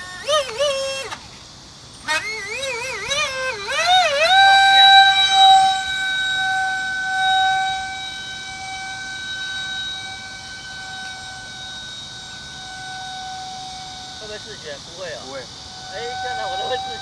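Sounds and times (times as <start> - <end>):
model airplane motor whine: 0.0 - 17.0.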